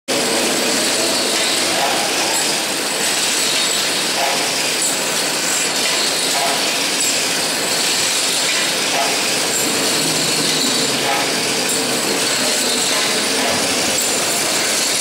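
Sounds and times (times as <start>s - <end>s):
machine mechanical noise: 0.1s - 15.0s.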